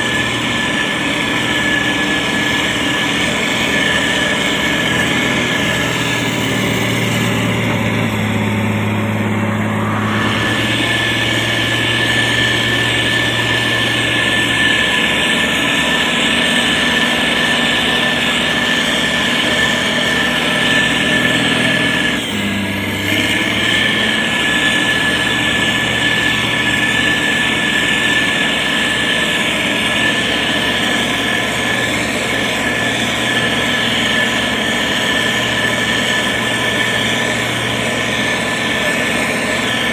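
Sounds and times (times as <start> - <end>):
grader diesel engine running: 0.0 - 39.9.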